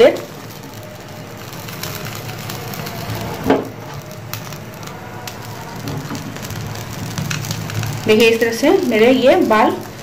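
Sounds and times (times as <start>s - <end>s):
gas stove burner flame: 0.0s - 10.0s
hair crackling and sizzling: 0.0s - 10.0s.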